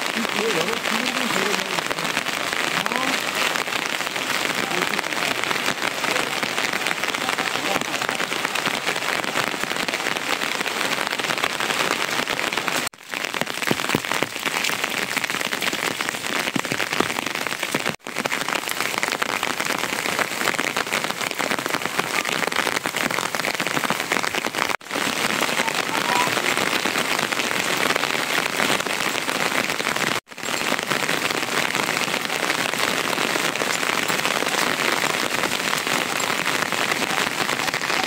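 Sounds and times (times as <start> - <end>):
rain on metal roofs: 0.0 - 38.0.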